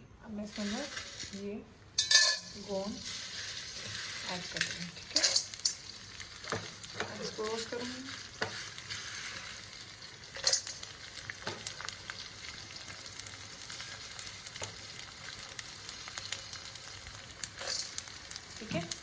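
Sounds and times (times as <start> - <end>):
frying in oil sizzling: 0.4 - 19.0.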